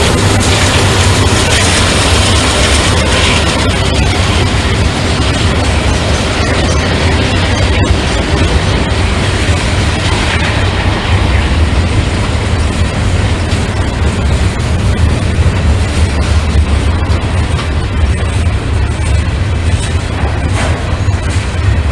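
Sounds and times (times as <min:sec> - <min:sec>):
train passing rumble: 0:00.0 - 0:21.9.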